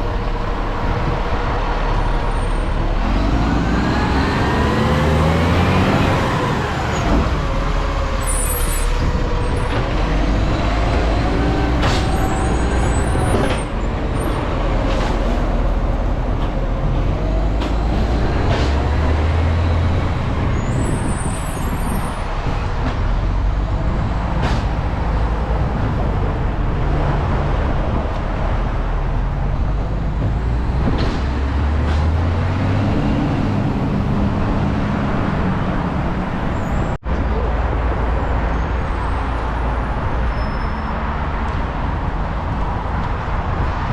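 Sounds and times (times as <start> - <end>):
diesel truck engine: 0.0 - 43.9.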